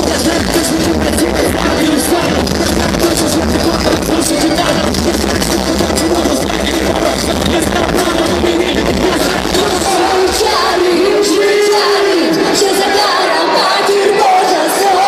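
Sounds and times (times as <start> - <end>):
heavy bass beat: 0.0 - 12.6
person rapping through loudspeakers: 0.0 - 15.0.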